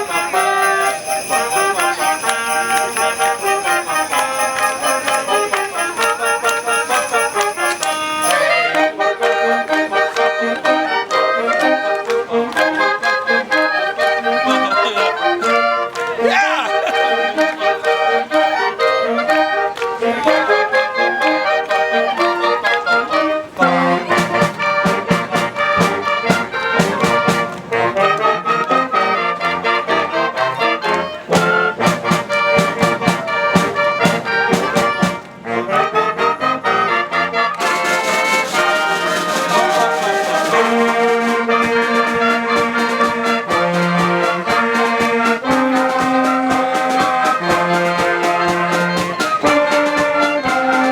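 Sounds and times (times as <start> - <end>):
brass instrumental music: 0.0 - 50.9.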